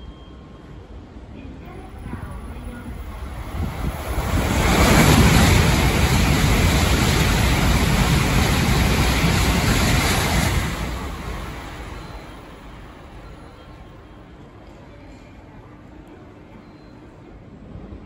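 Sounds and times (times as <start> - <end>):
train passing at speed: 0.2 - 18.0.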